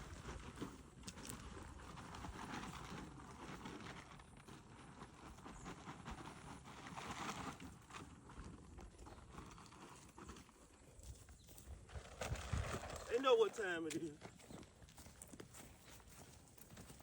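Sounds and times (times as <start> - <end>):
cattle hoof steps and shuffling: 0.0 - 17.0.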